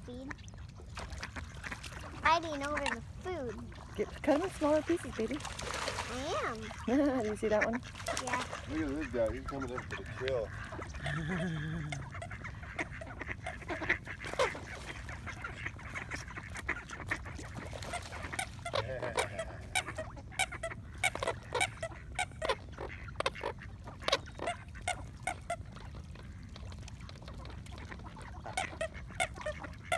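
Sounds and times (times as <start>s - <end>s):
ducks and swans calling: 0.2s - 26.4s, 27.1s - 29.9s.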